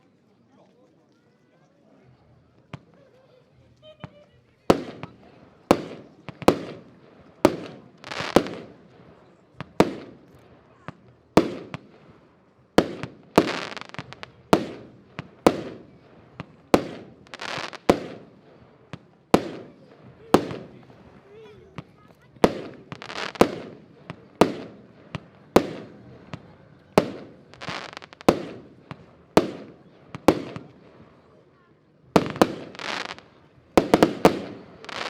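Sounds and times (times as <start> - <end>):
fireworks reports and crackling: 0.1 - 35.0.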